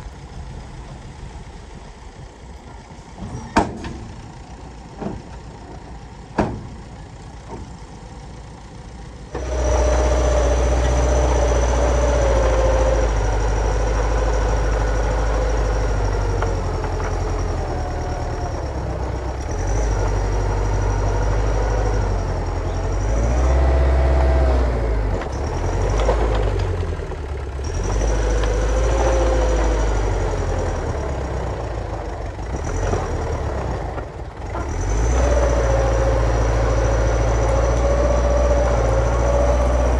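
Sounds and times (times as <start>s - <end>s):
diesel machinery rumbling: 0.0s - 39.9s.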